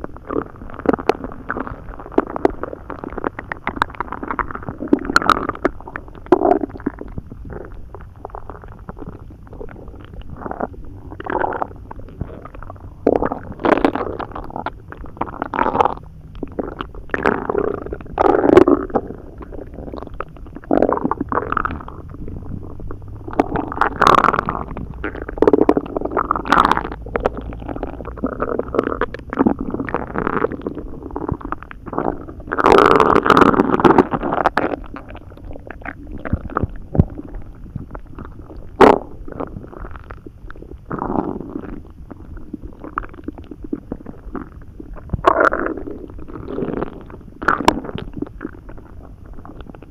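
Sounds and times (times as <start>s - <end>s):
stomach rumbling and gurgling: 0.0s - 49.9s.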